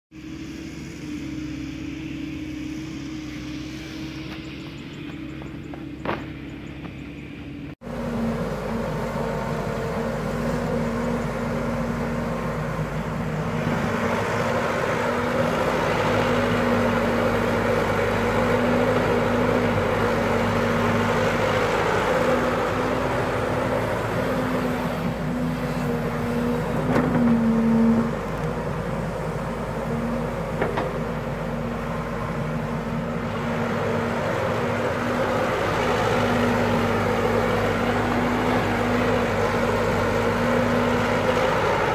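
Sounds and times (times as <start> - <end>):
excavator diesel engine running: 0.2 - 41.9.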